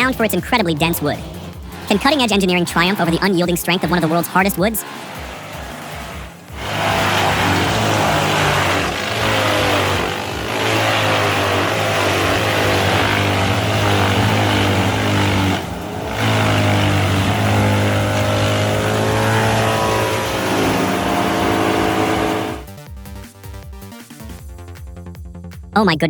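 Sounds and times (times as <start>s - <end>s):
diesel engine under heavy load: 0.0s - 22.7s
wood chipper grinding logs: 0.0s - 22.7s.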